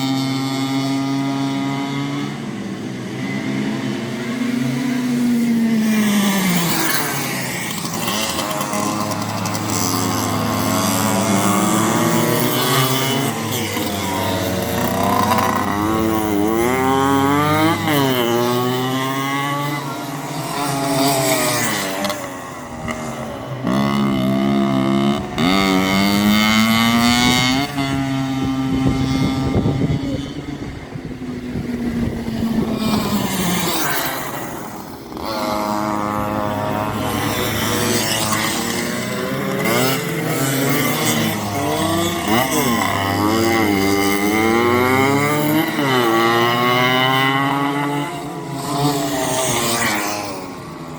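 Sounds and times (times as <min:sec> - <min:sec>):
go-kart engines racing: 0:00.0 - 0:50.9.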